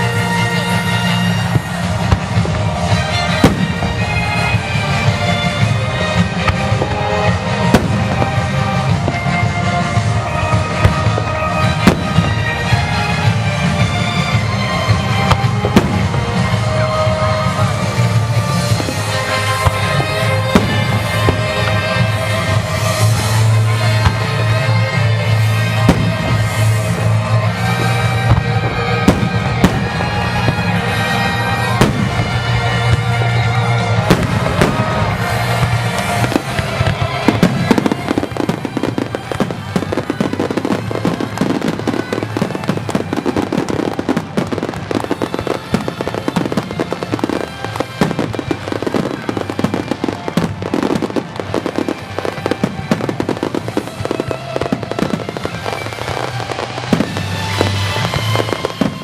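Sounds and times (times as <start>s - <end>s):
fireworks bangs and pops: 0.0s - 59.0s
music: 0.0s - 59.0s.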